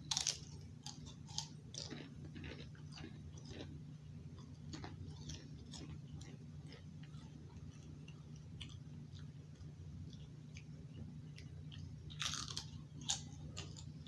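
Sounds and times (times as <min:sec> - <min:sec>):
crunchy chip chewing: 0:00.0 - 0:14.0
steady low hum: 0:00.0 - 0:14.0.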